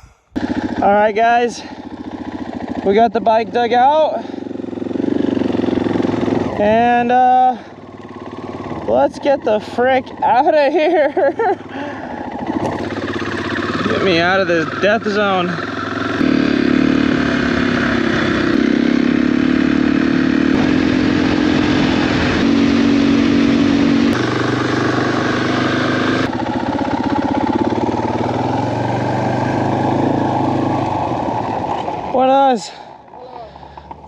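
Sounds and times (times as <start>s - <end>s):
motorcycle engine riding away: 0.4s - 34.0s.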